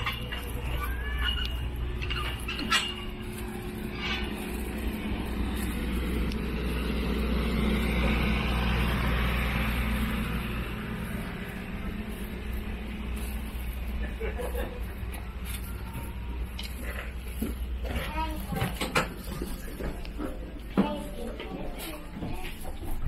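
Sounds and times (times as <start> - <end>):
diesel train engine idling: 0.0 - 23.0.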